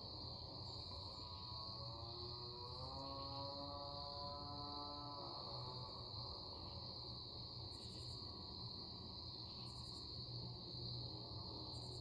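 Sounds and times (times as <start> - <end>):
buzzy insect call: 0.0 - 12.0
crickets trilling: 0.0 - 12.0.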